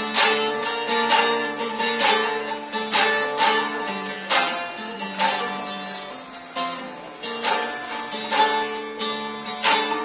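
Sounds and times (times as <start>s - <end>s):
lute strummed: 0.0s - 10.0s.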